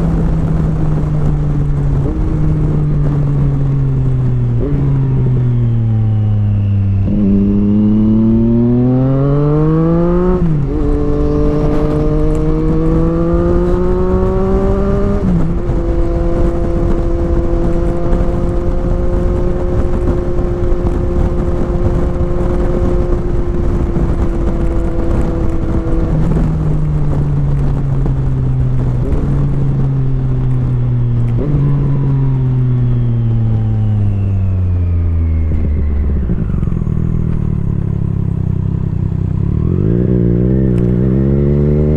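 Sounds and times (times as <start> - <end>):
motorcycle engine shifting gears: 0.0 - 41.9.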